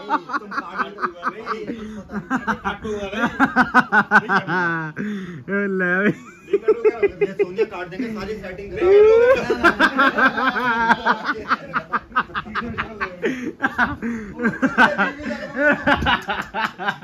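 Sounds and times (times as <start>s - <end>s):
people laughing: 0.0s - 17.0s.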